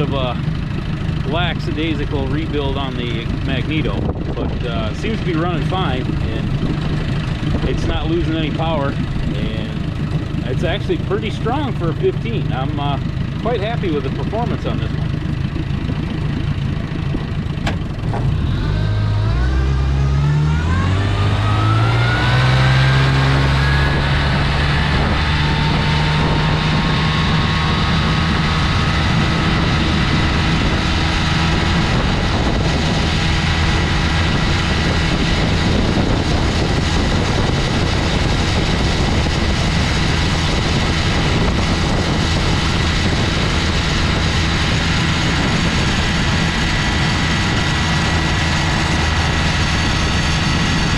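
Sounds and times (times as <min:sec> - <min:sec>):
outboard motor revving: 0:00.0 - 0:50.9.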